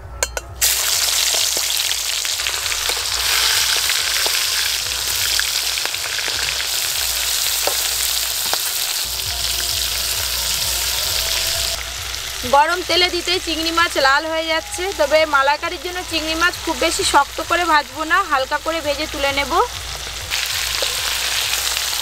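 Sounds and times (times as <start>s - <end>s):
prawns sizzling in oil: 0.6s - 22.0s.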